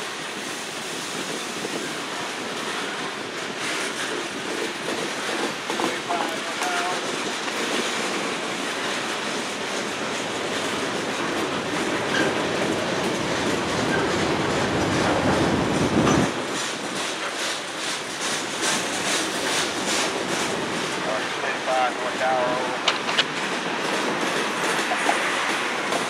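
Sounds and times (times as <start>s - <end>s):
freight train rumbling by: 0.0s - 26.0s
wheels clacking over rail joints: 1.6s - 26.0s.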